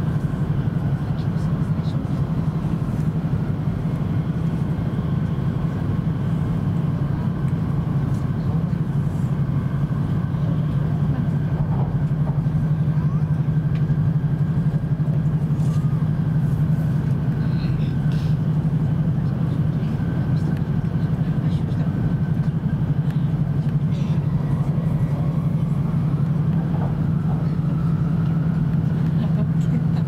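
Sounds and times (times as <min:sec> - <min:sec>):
train cabin low rumble: 0:00.0 - 0:30.0.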